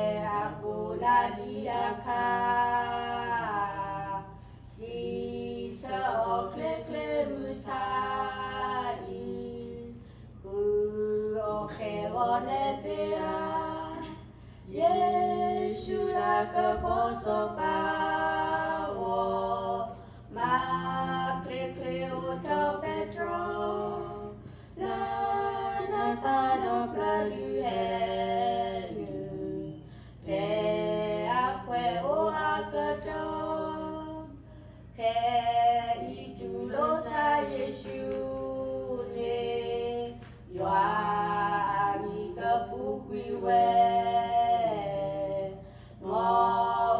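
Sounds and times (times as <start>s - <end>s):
women singing a hymn: 0.0s - 46.9s.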